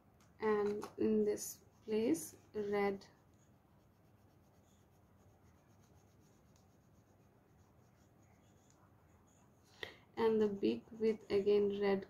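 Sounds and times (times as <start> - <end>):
colouring scratching on paper: 0.6 - 12.0.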